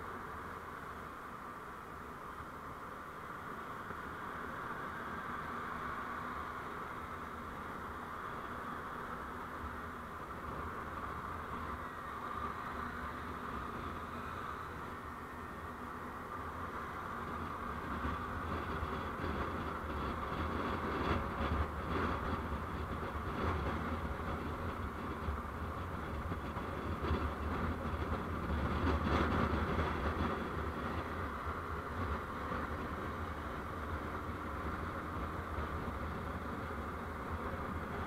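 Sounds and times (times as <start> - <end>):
vehicle road and engine noise: 0.0 - 38.0.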